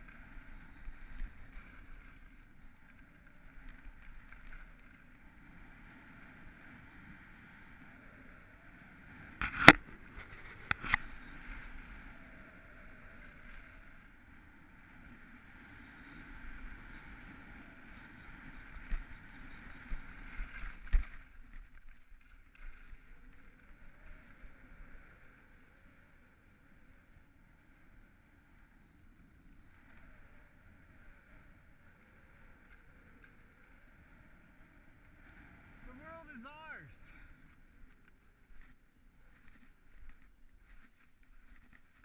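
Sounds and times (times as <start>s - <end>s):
skis scraping over packed snow: 0.0s - 42.0s.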